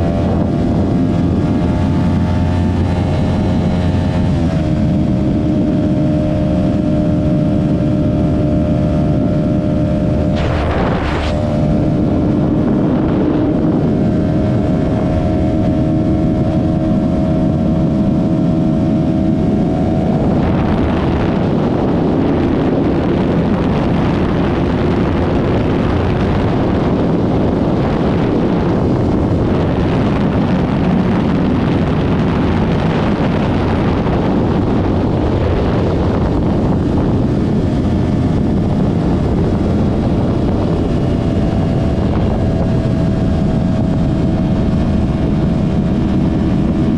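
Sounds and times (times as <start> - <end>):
motorcycle engine riding: 0.0 - 46.9.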